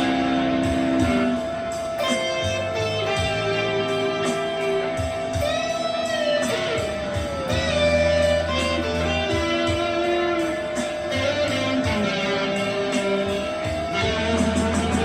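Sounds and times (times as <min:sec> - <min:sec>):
smooth instrumental music: 0:00.0 - 0:15.0.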